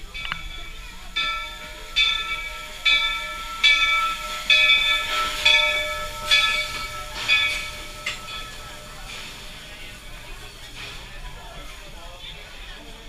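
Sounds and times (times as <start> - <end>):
steam locomotive bell ringing: 0.0 - 12.6
steam hissing: 0.0 - 13.0.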